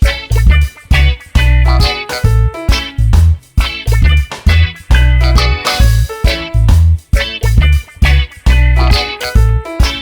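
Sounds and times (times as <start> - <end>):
upbeat funk music: 0.0 - 10.0.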